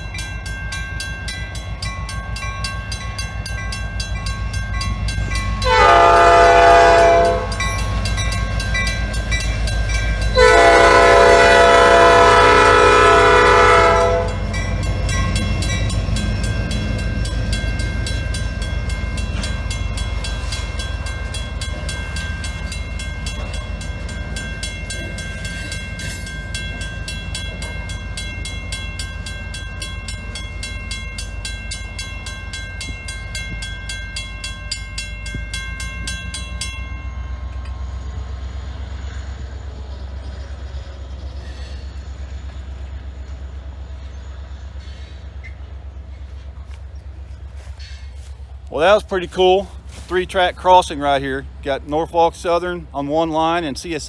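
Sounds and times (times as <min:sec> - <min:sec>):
crossing warning bell ringing: 0:00.0 - 0:54.0
freight train rumbling: 0:00.0 - 0:54.0.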